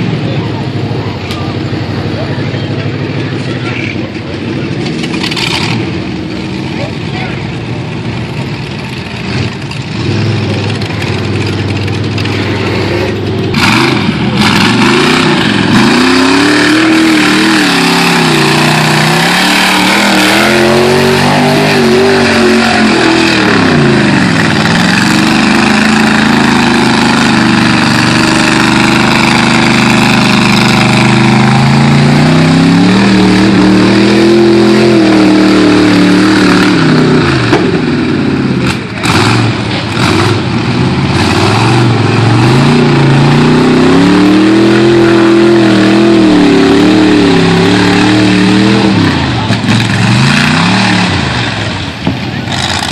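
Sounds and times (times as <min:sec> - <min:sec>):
truck engine revving hard: 0:00.0 - 0:52.9.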